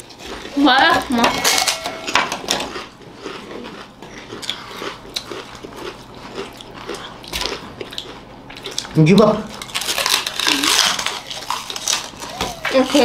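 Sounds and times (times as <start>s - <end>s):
people chewing crunchy chips: 0.0s - 13.0s.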